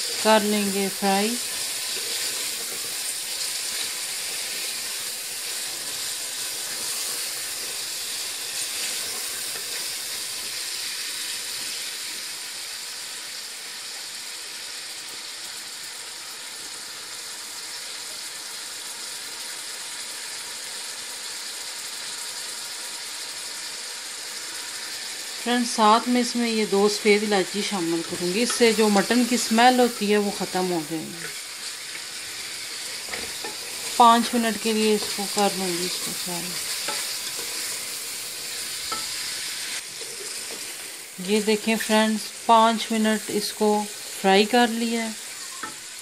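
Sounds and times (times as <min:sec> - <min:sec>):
meat sizzling in hot oil: 0:00.0 - 0:46.0.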